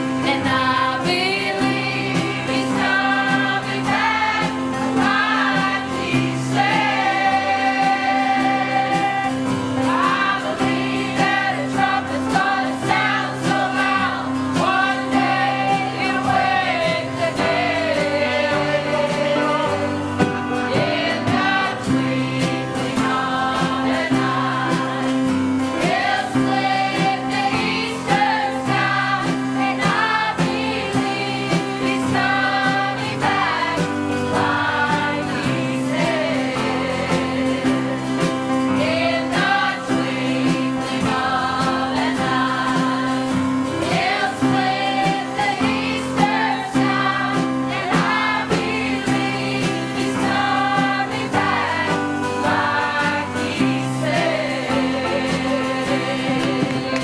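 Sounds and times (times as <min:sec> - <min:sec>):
choir singing a hymn: 0:00.0 - 0:57.0
instrumental accompaniment: 0:00.0 - 0:57.0.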